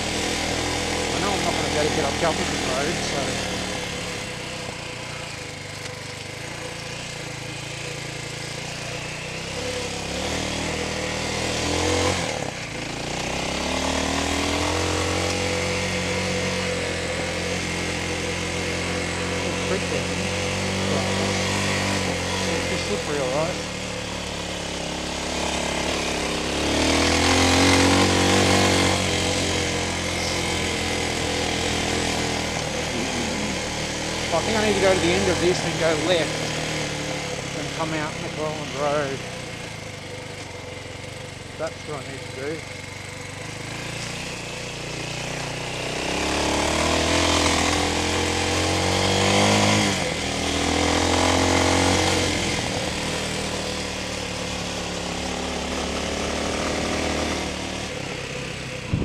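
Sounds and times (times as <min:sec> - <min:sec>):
dirt bike engine: 0:00.0 - 0:59.0.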